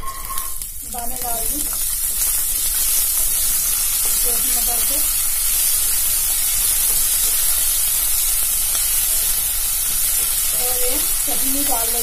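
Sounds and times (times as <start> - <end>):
peas sizzling in hot oil: 0.0 - 12.0.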